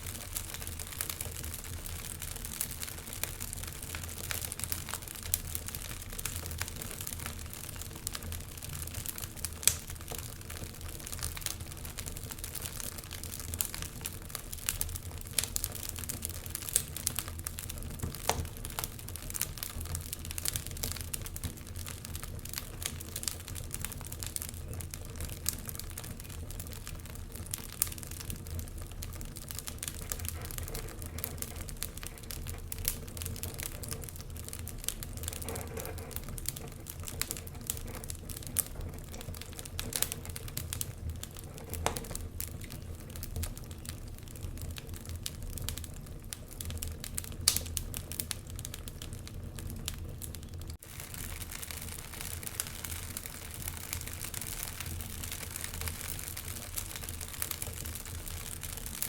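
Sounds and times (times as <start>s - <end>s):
low rumble of flames: 0.0s - 59.0s
wood fire crackling: 0.0s - 59.0s
pops and snaps of fire: 0.1s - 59.0s.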